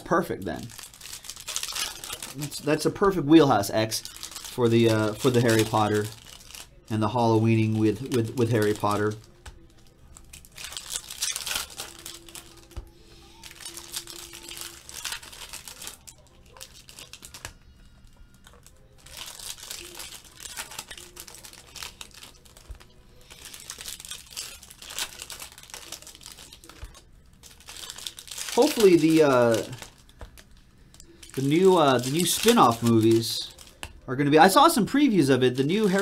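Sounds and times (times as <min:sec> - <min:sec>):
foil wrappers crinkling and tearing: 0:00.0 - 0:36.0.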